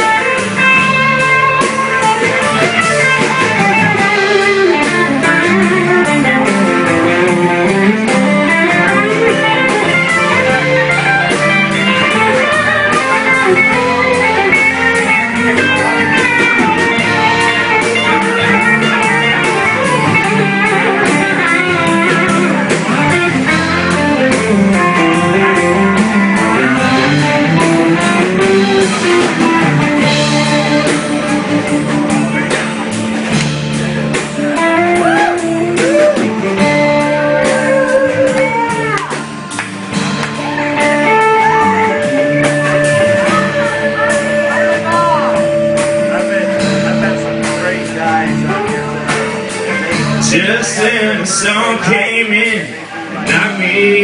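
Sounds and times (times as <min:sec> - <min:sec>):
country band playing: 0:00.0 - 0:54.0
guitar: 0:00.0 - 0:54.0.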